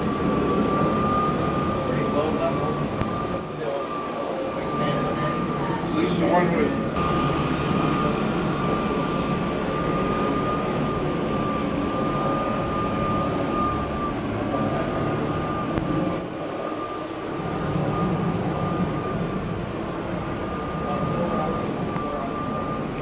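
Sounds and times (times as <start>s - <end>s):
floor burnisher whining: 0.0s - 23.0s.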